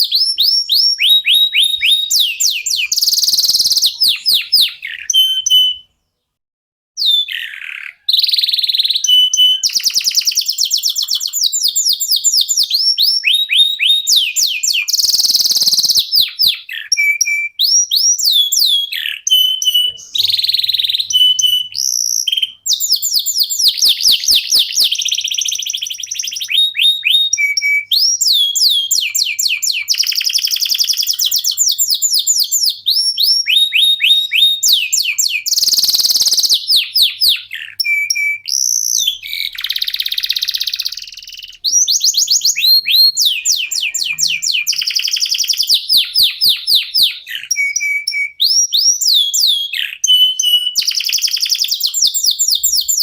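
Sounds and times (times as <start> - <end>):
canary singing trills: 0.0 - 6.4, 7.0 - 53.0.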